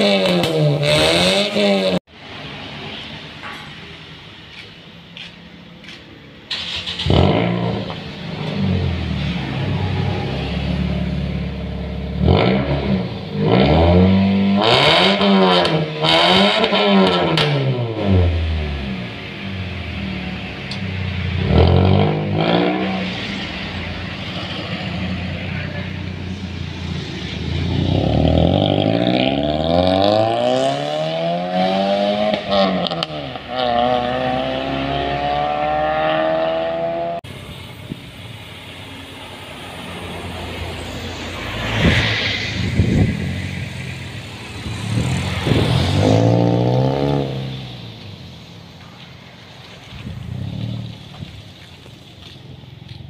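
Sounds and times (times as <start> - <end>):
car engine idling and revving: 0.0 - 53.0.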